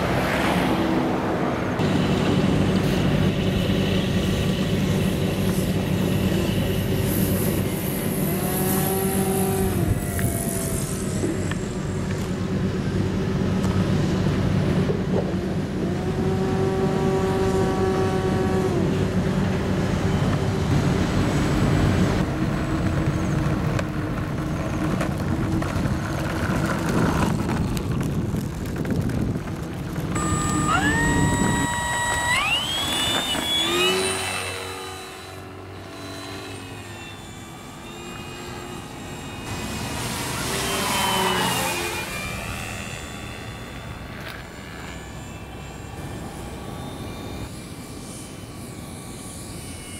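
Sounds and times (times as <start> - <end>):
electric motor and propeller whine: 0.0 - 49.9.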